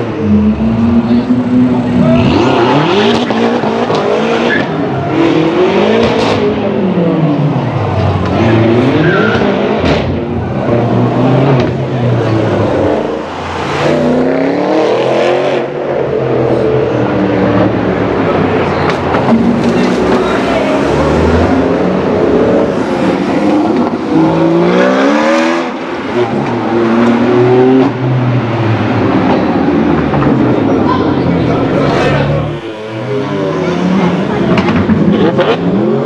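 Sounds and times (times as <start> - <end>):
car engine revving in tunnel: 0.0 - 36.0
second sports car accelerating: 0.0 - 36.0.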